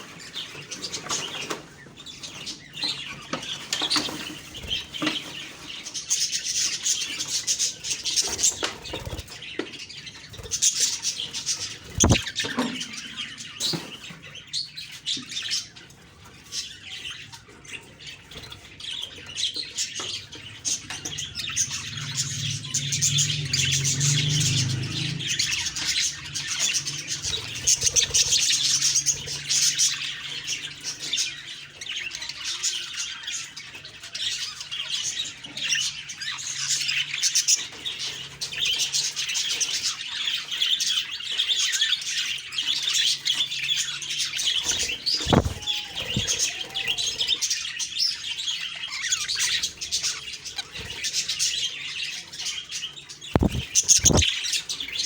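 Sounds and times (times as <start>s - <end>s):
budgies chirping and chattering: 0.0s - 55.0s.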